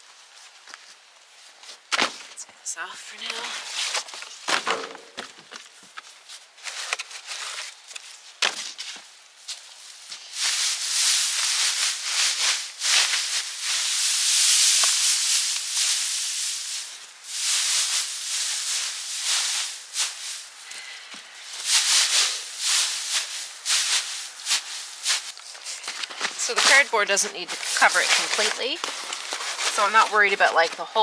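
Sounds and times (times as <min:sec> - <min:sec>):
hay rustling and crackling: 0:06.1 - 0:31.0.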